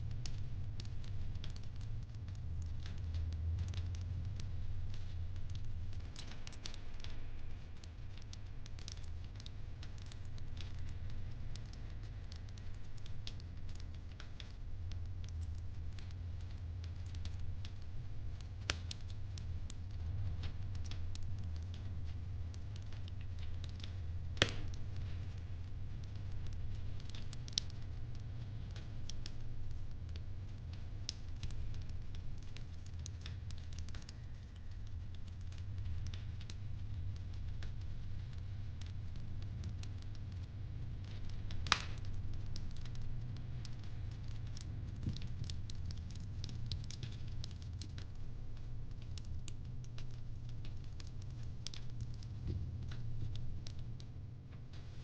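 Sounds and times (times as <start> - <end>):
steady low rumble: 0.0 - 55.0
fireplace crackling: 0.1 - 55.0.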